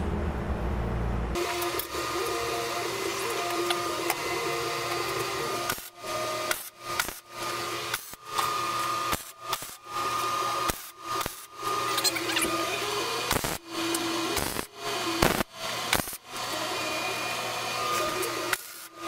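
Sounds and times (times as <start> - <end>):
welding arc buzzing crackle: 1.4 - 16.7, 17.9 - 19.0.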